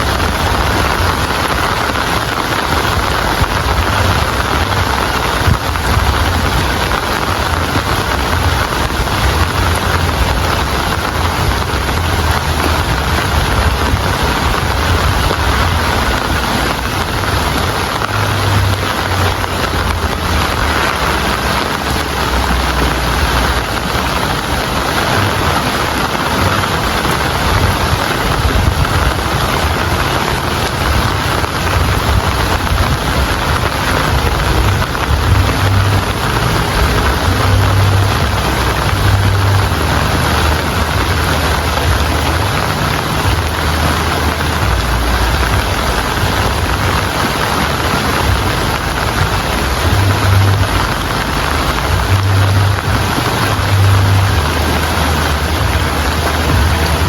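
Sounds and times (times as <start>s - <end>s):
heavy rain falling: 0.0s - 57.0s
low rumble: 0.0s - 57.0s.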